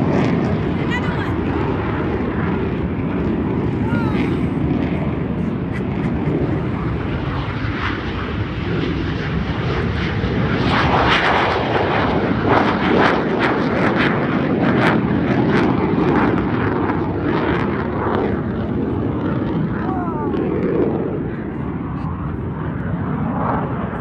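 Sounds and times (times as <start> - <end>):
jet engines flying low past: 0.0 - 24.0
rapid crackle of jet engines: 0.0 - 24.0.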